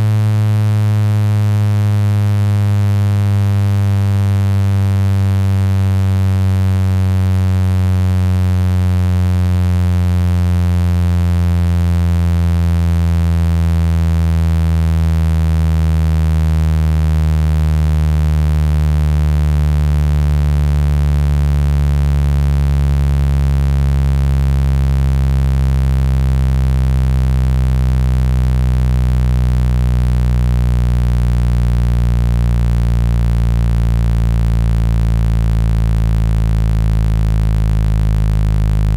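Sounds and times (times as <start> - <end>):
low buzzy tone sliding downward: 0.0 - 38.9.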